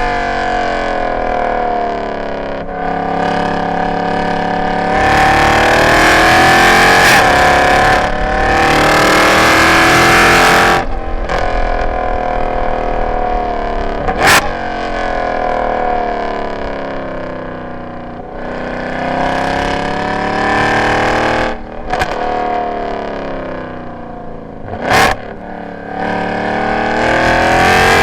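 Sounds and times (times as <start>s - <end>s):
car engine revving at full throttle: 0.0s - 28.0s
exhaust crack: 0.0s - 28.0s.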